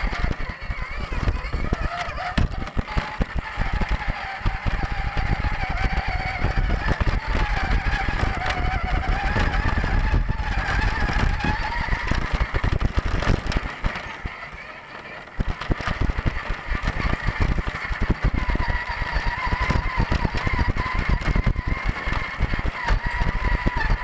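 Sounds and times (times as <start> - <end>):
chassis and tyres rattling on dirt: 0.0 - 24.0
electric motor and gear whine: 0.0 - 24.0.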